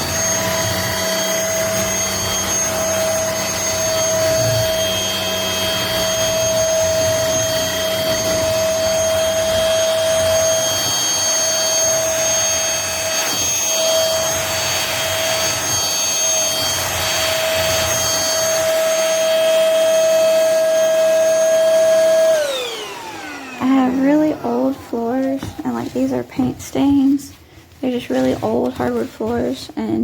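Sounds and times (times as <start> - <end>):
vacuum cleaner motor whine: 0.0 - 30.0.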